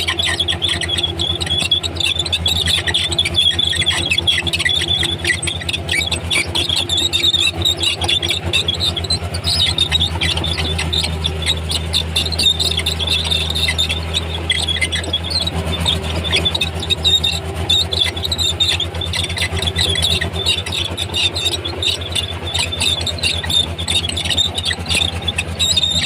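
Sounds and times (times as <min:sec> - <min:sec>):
diesel engine running under load: 0:00.0 - 0:26.0
steel tracks squeaking: 0:00.0 - 0:26.0.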